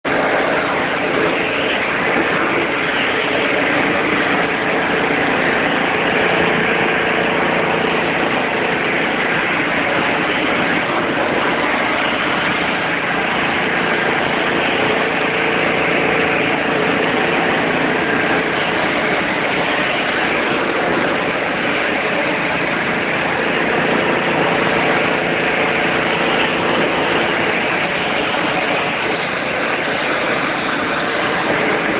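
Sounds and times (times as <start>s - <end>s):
pressure washer running: 0.0s - 31.9s.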